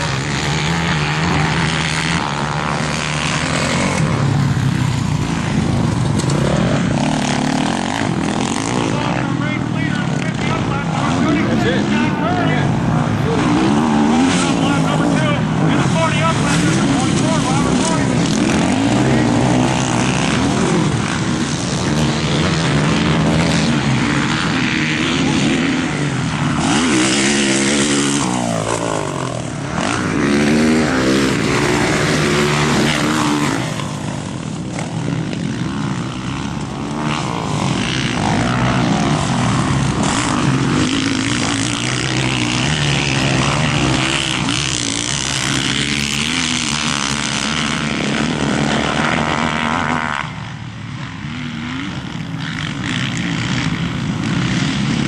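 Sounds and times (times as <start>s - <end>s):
motocross bikes racing: 0.0s - 55.0s.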